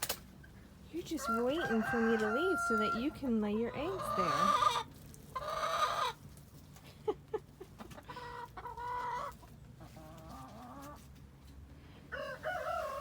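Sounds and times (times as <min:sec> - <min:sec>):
hens clucking: 0:00.0 - 0:11.2.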